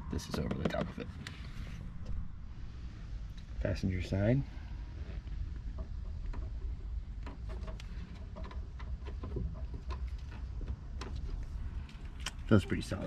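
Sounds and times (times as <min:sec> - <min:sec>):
steady low rumble: 0:00.9 - 0:13.0.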